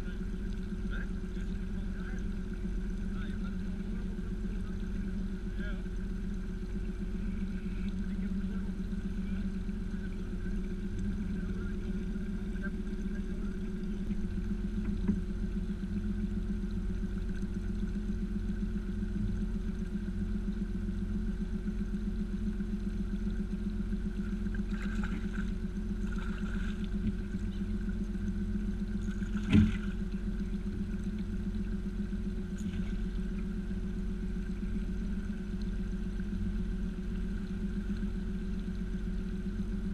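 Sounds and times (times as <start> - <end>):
boat motor humming: 0.0 - 39.9.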